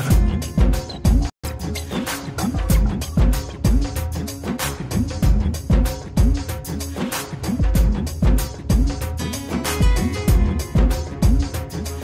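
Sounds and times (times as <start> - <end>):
music with deep drum beat: 0.0 - 12.0.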